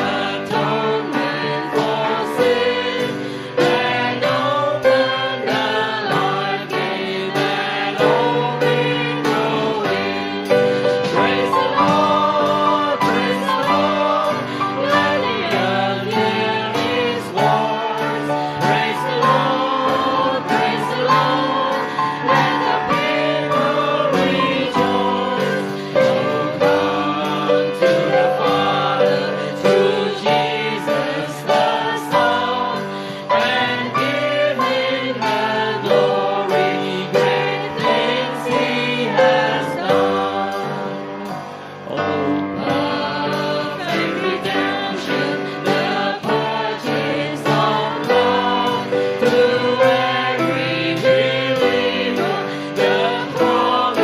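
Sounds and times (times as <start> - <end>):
congregation singing a hymn: 0.0 - 54.0
piano: 0.0 - 54.0
steady drum beat: 0.0 - 54.0.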